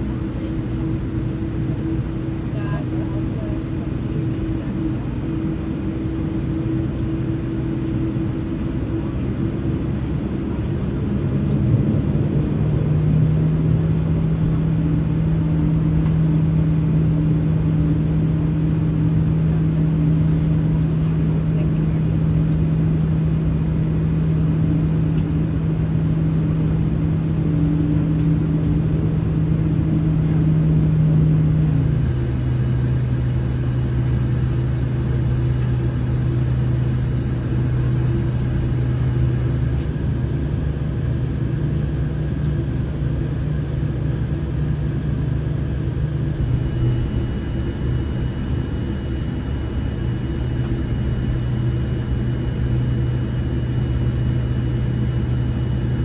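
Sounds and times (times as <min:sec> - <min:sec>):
airplane cabin rumble and hum: 0:00.0 - 0:56.0.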